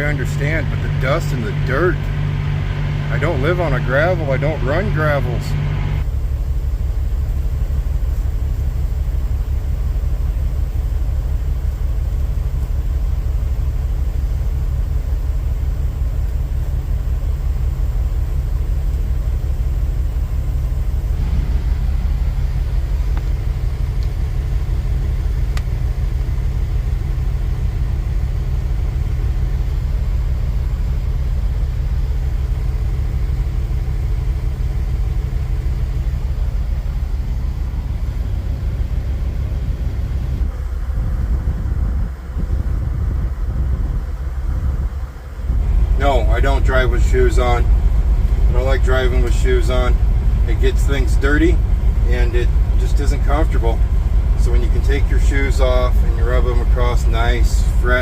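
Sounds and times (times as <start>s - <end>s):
diesel truck engine running: 0.0s - 58.0s
faint hum: 0.0s - 58.0s.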